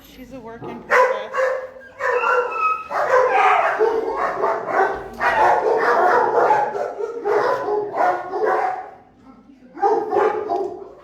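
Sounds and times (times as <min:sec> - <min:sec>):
dogs barking: 0:00.8 - 0:09.2, 0:09.8 - 0:11.0.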